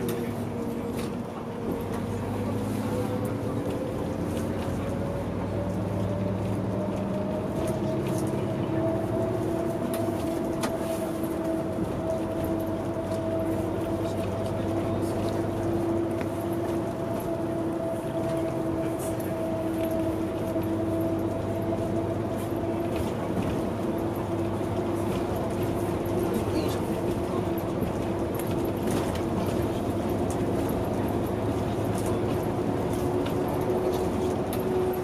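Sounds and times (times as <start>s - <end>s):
bus engine and road noise: 0.0s - 35.0s
constant hum: 0.0s - 35.0s.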